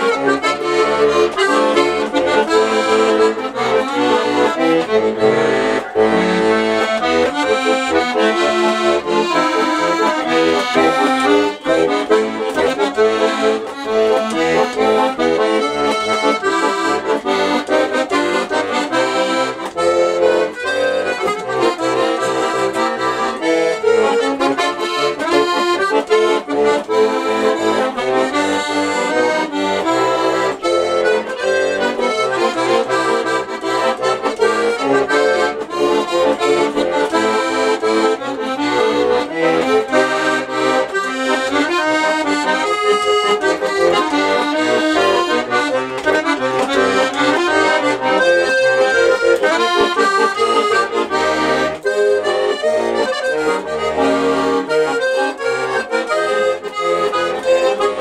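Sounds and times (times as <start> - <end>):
button accordion playing: 0.0 - 58.0.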